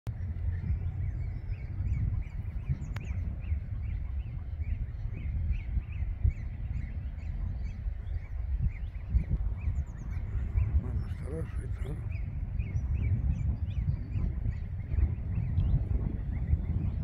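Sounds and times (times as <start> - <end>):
wind on microphone: 0.1 - 17.0.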